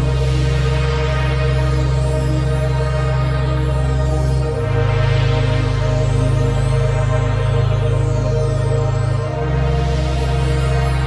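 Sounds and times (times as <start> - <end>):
ambient music with held tones: 0.0 - 11.0
low bass: 0.0 - 11.0.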